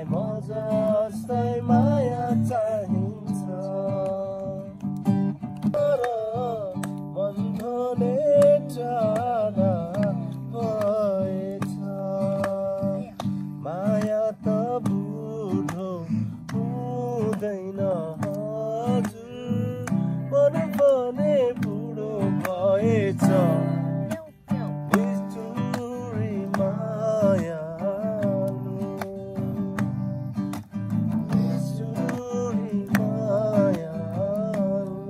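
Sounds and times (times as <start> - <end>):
acoustic guitar strumming: 0.0 - 35.0
person singing: 5.7 - 35.0.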